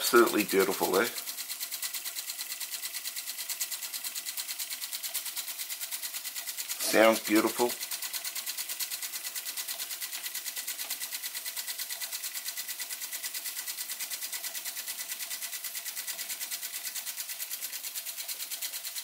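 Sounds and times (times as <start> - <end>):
toy steam engine chuffing: 0.0 - 19.0.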